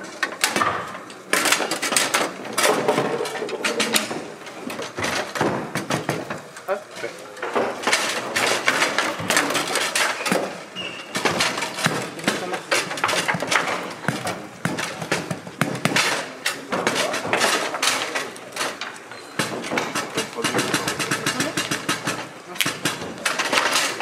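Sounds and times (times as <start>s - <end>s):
foosball clacking against figures: 0.0s - 24.0s
rods and figures clattering: 0.0s - 24.0s.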